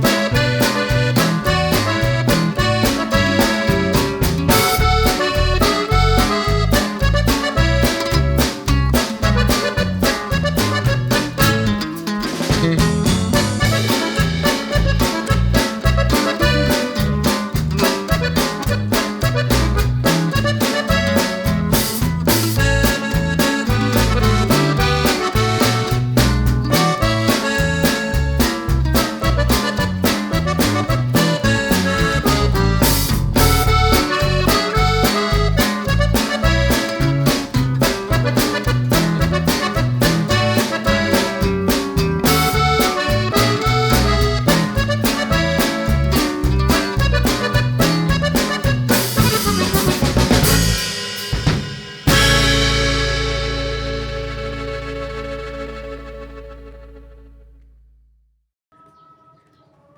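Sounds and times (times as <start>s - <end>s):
music with accordion melody: 0.0s - 57.7s.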